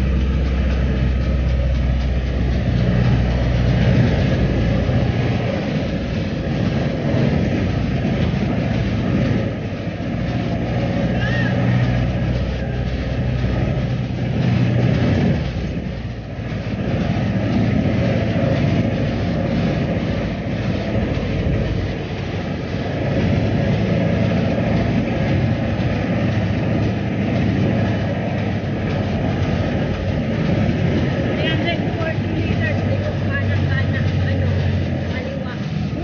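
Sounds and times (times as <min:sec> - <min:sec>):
low hum: 0:00.0 - 0:36.0
vehicle engine and road rumble: 0:00.0 - 0:36.0.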